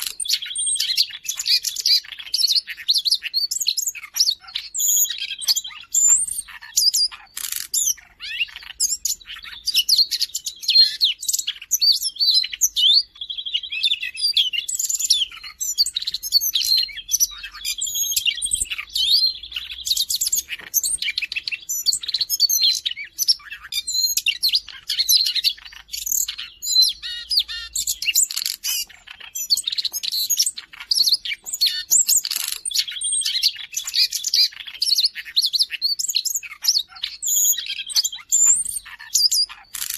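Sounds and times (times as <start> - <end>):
bird singing a warble: 0.0 - 39.9.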